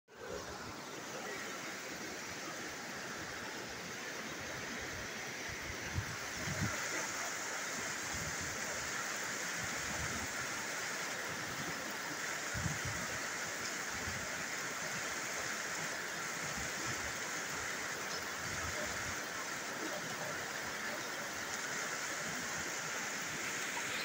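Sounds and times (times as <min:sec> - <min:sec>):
floodwater rushing: 0:00.1 - 0:24.0.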